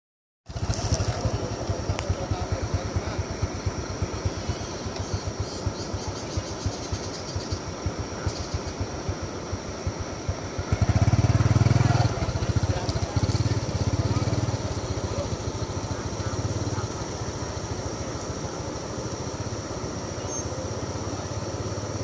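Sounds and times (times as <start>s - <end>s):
small motorcycle engine idling: 0.5s - 22.0s.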